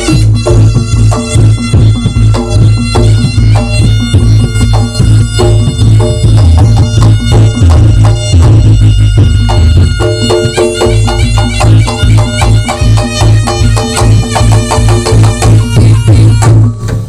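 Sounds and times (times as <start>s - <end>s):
fast dense drumming: 0.0s - 17.0s
heavy bass: 0.0s - 17.0s
shrill reed wind instrument: 0.0s - 17.0s.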